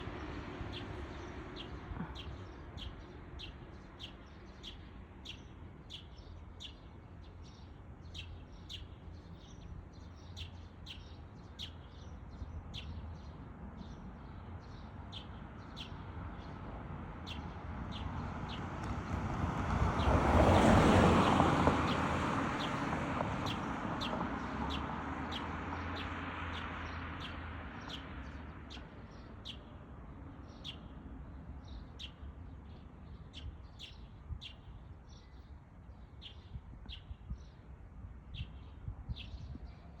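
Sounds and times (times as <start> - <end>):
sparrows chirping: 0.0 - 18.6, 20.0 - 40.0.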